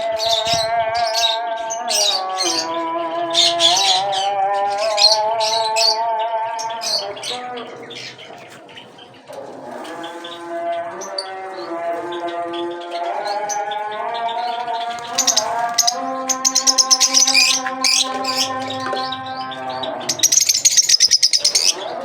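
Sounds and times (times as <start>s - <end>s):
cage birds chirping and squawking: 0.0s - 22.0s
man chanting call to prayer: 0.0s - 22.0s.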